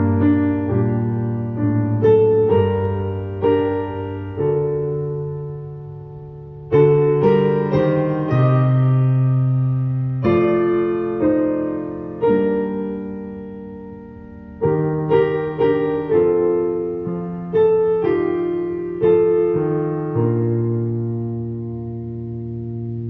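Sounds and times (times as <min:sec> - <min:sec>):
slow solo piano music: 0:00.0 - 0:23.0.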